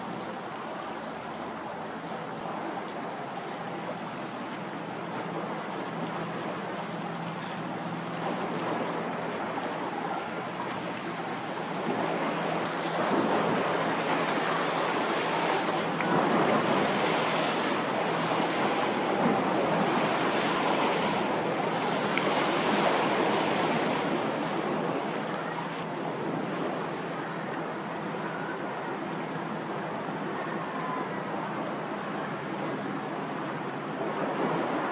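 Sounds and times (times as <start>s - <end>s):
rushing surf-like water: 0.0s - 34.9s.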